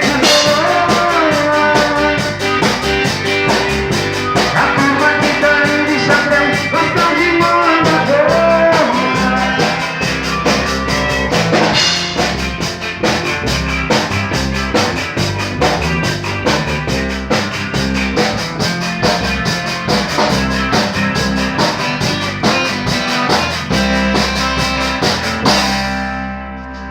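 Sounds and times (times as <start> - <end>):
band playing instrumental: 0.0 - 26.9
drum kit beat: 0.0 - 26.9.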